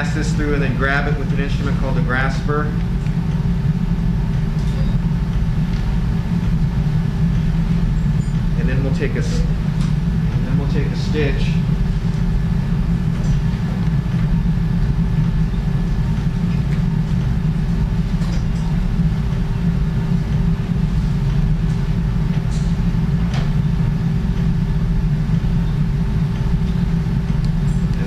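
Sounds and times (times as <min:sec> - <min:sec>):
equipment humming: 0:00.0 - 0:28.0.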